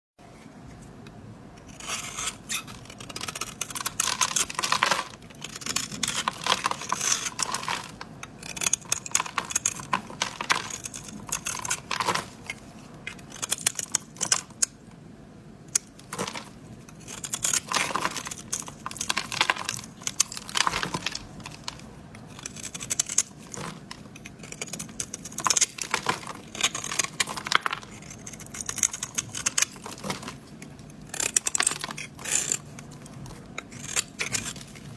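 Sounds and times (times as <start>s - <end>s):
knife scraping soap: 1.6s - 14.7s, 15.7s - 34.9s.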